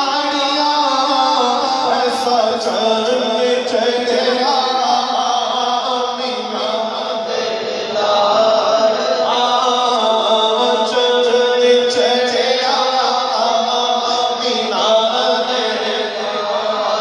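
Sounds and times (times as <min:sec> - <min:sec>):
man chanting over loudspeakers: 0:00.0 - 0:17.0.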